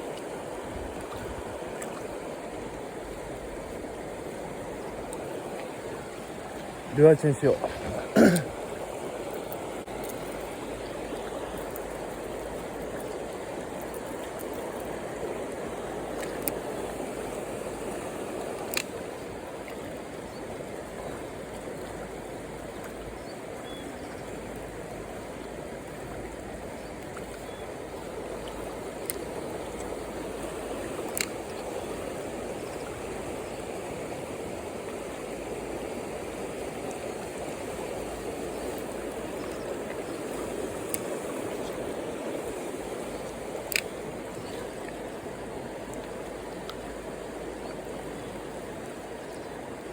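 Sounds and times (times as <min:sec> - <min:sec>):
stream rushing over rocks: 0:00.0 - 0:23.1, 0:24.4 - 0:49.9.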